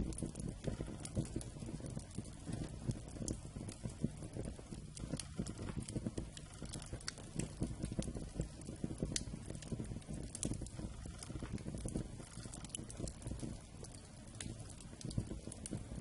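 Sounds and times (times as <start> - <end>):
campfire crackling and popping: 0.0 - 16.0
low rumble of burning logs: 0.0 - 16.0.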